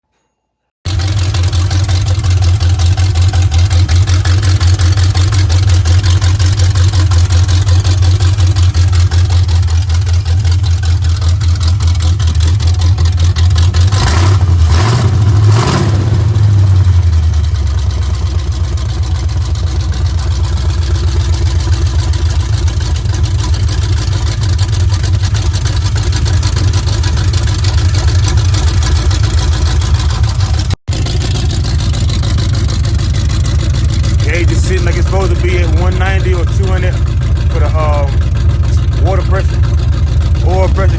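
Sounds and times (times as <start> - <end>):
car engine idling: 0.9 - 40.9
engine revving: 0.9 - 40.9.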